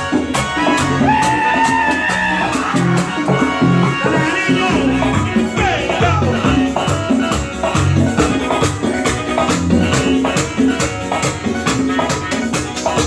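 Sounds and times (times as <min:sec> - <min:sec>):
latin band music: 0:00.0 - 0:13.0.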